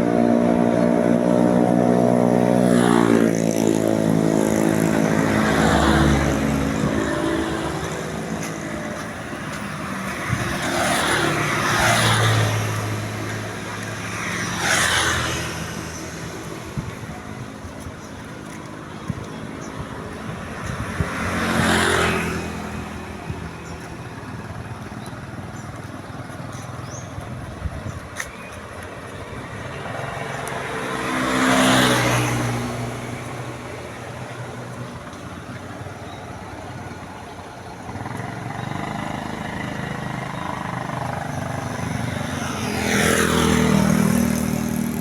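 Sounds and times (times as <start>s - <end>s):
steady engine hum: 0.0s - 45.0s
vehicles passing by: 0.0s - 45.0s.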